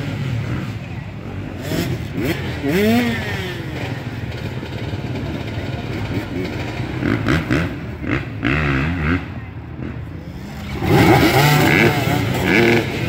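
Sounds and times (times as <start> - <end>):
dirt bike engines idling and revving: 0.0 - 13.0.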